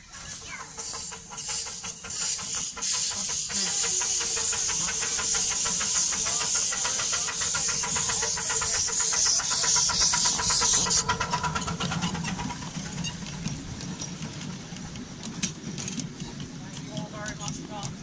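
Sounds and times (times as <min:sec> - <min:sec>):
carriages rumbling over track: 0:00.0 - 0:18.0
miniature steam locomotive hissing: 0:00.0 - 0:18.0
rapid clicks of wheels on track: 0:00.0 - 0:18.0.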